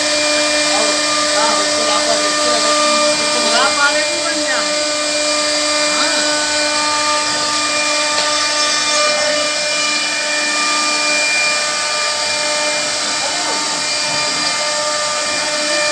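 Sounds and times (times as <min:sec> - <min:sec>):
wood router spindle whine: 0:00.0 - 0:15.9.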